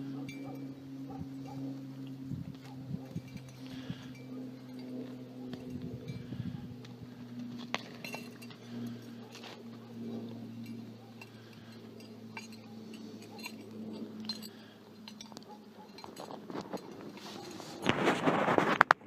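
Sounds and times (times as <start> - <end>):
cow crunching through snow: 0.0 - 19.0
steady low hum: 0.0 - 19.0.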